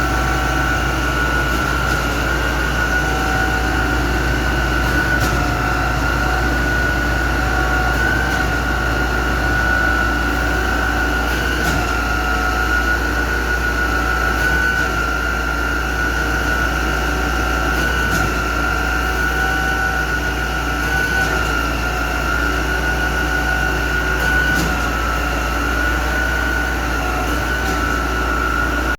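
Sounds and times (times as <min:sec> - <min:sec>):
heavy machinery engine rumble: 0:00.0 - 0:28.9.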